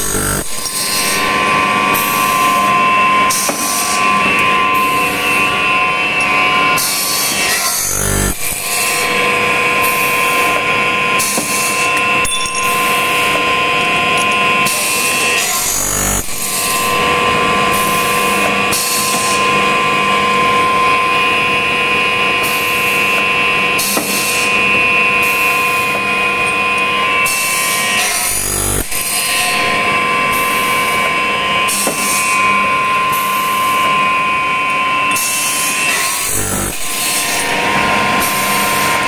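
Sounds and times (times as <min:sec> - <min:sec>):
saw blade whine: 0:00.0 - 0:39.0
saw cutting through aluminium: 0:00.0 - 0:39.0.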